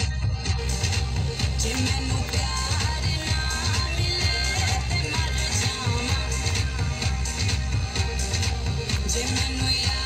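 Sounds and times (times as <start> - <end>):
pop dance song with heavy bass: 0.0 - 10.0.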